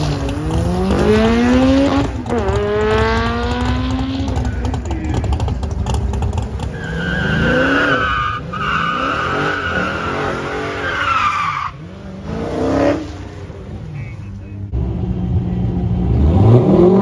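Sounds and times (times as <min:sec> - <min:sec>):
engine revving: 0:00.0 - 0:10.9, 0:14.0 - 0:17.0.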